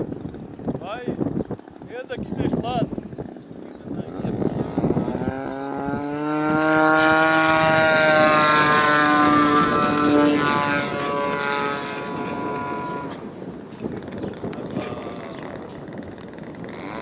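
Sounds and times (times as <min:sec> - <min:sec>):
model plane engine in flight: 0:00.0 - 0:17.0.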